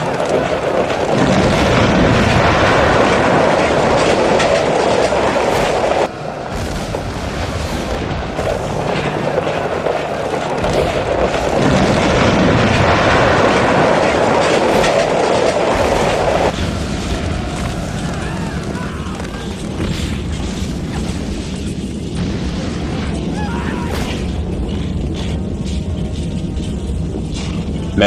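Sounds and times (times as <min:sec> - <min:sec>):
horses galloping: 0:00.0 - 0:28.0.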